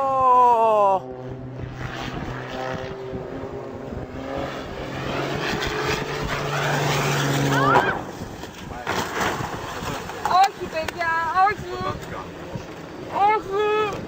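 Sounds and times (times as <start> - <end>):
propeller airplane engine drone: 0.0 - 14.0.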